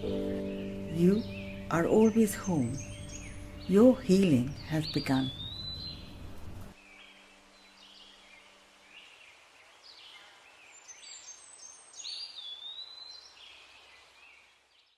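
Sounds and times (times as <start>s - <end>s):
songbirds chirping and whistling: 0.0s - 14.9s.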